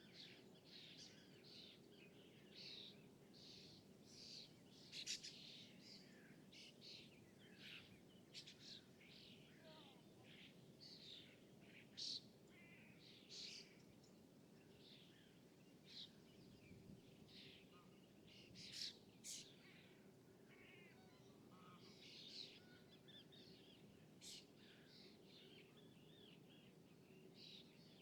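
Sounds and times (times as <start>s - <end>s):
small songbirds chirping: 0.0s - 21.2s, 21.8s - 28.0s.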